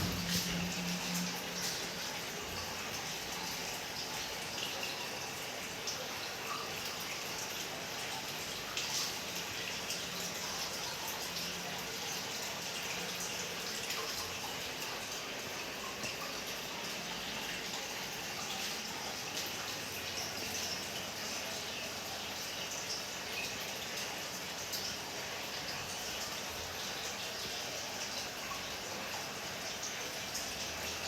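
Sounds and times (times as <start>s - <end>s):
water drips: 0.0s - 31.0s
water trickling into aquarium: 0.0s - 31.0s.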